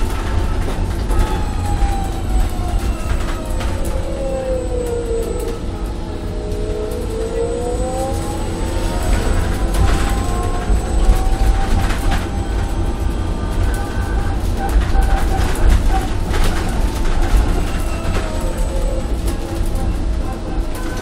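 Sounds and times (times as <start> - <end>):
bus cabin rumble: 0.0 - 21.0
faint whine: 0.0 - 21.0.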